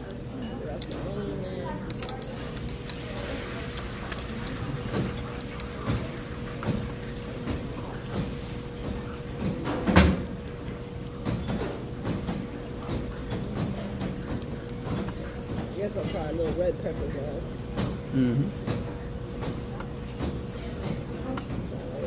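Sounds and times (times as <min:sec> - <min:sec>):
faint background chatter: 0:00.0 - 0:10.4, 0:11.1 - 0:22.0.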